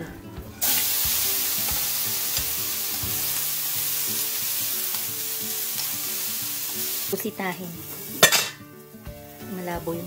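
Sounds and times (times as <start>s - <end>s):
background music: 0.0s - 10.0s
beans sizzling in hot oil: 0.6s - 10.0s.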